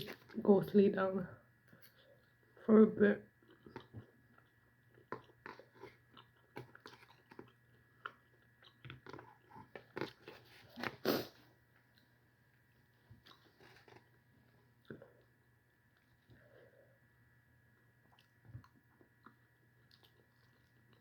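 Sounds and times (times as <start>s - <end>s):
person chewing food: 3.3s - 17.1s, 17.7s - 21.0s.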